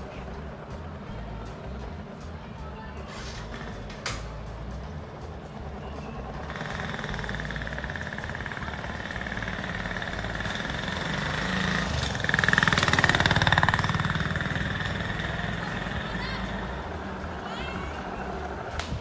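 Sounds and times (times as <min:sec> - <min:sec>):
bicycle motorcycle-like rattle: 0:00.0 - 0:19.0.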